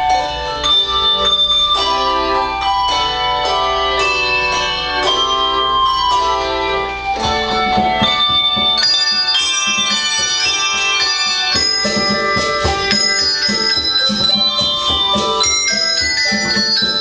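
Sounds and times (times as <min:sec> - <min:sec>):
handbell choir playing: 0:00.0 - 0:17.0
low rhythmic pulse: 0:00.0 - 0:17.0.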